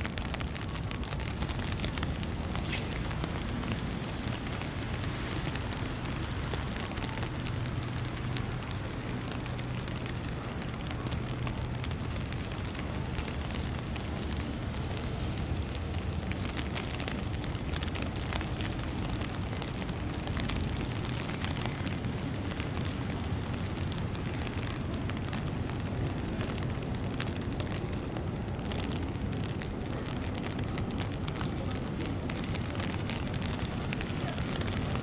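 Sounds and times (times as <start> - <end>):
fine crackling noise: 0.0 - 35.0
low city rumble: 0.0 - 35.0.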